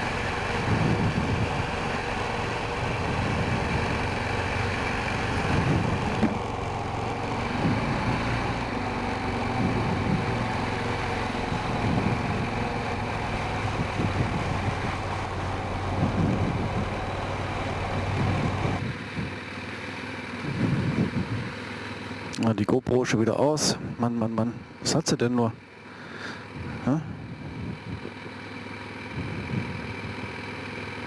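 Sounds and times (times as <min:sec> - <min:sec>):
atv engine running: 0:00.0 - 0:22.5, 0:25.6 - 0:31.0.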